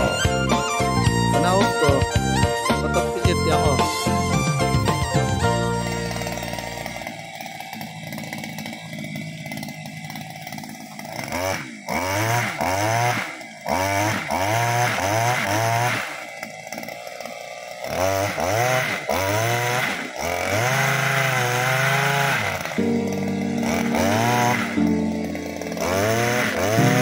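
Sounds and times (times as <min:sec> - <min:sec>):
small petrol engine revving: 0:00.0 - 0:27.0.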